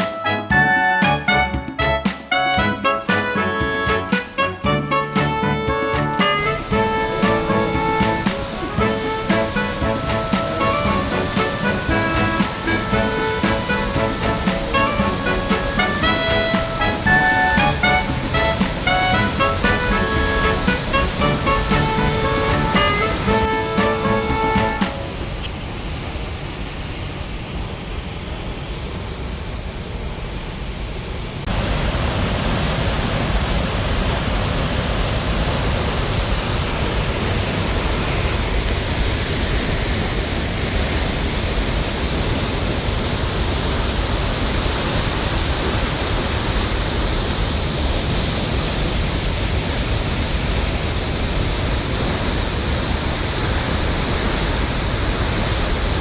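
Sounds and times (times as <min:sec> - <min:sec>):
waterfall roar: 0:00.7 - 0:56.0.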